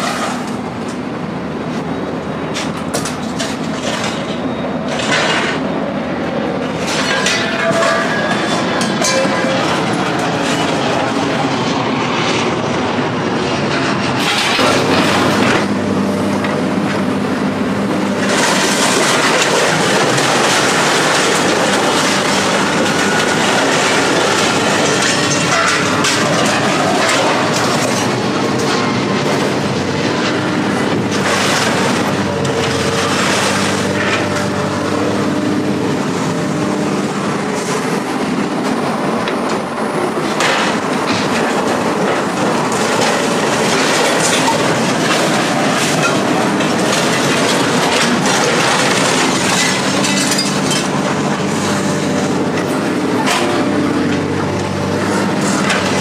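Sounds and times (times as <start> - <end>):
scrap metal clanking and scraping: 0.0 - 0.6, 2.5 - 5.8, 6.6 - 11.2, 13.7 - 15.7, 18.2 - 37.8, 40.2 - 56.0
heavy machinery engine hum: 0.0 - 56.0.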